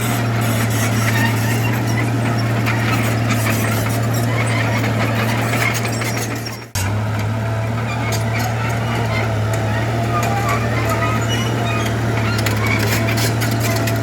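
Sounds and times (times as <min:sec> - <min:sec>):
diesel engine humming: 0:00.0 - 0:14.0
machinery rattling and clicks: 0:00.0 - 0:14.0.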